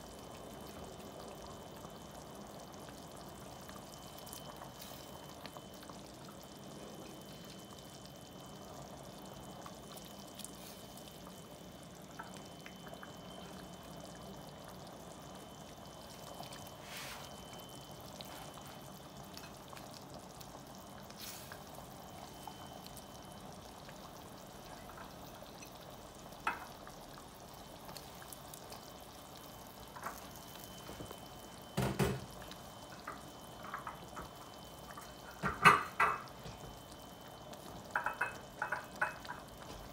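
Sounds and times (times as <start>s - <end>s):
sauce bubbling in a pot: 0.0s - 39.9s.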